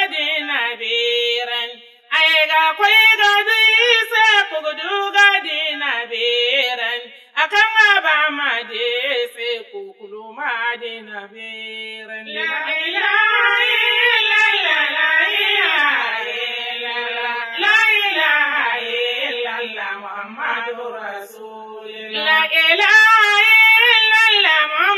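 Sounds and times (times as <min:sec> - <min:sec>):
person singing a chant: 0:00.0 - 0:24.9.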